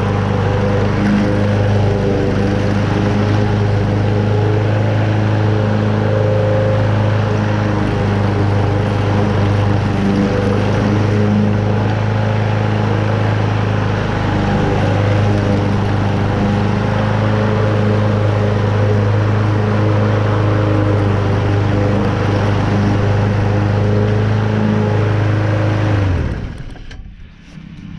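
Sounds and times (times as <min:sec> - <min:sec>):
lawn mower engine running: 0:00.0 - 0:27.9
mower blade cutting grass: 0:00.0 - 0:27.9.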